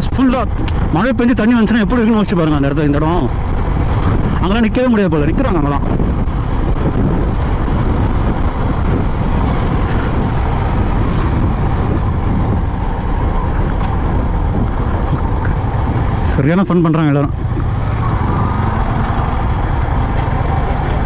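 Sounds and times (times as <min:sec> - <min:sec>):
motorcycle engine drone: 0:00.0 - 0:21.0
wind noise on microphone: 0:00.0 - 0:21.0.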